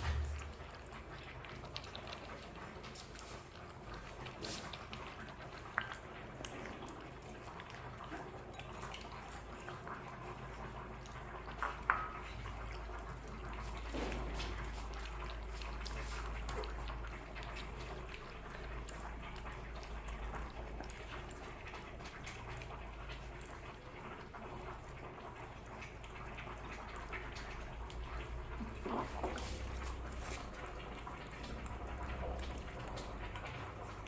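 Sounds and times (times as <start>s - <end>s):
puppies lapping milk: 0.0s - 34.0s.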